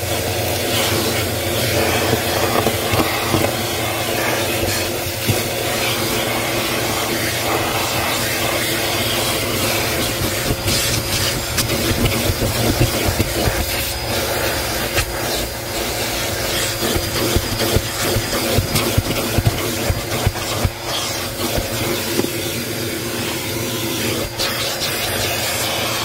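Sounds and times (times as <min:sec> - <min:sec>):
vacuum cleaner running: 0:00.0 - 0:26.0
vacuum tool rubbing on carpet: 0:00.0 - 0:26.0
wood chips rattling up hose: 0:00.0 - 0:26.0.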